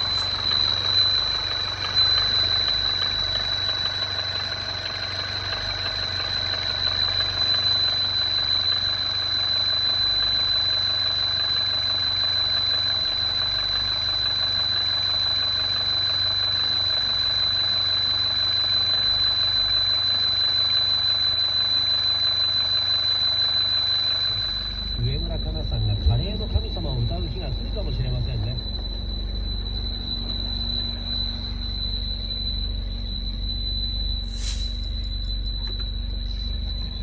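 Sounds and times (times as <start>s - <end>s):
car engine idling: 0.0s - 19.7s, 24.1s - 37.0s
high-pitched engine whine: 0.0s - 37.0s.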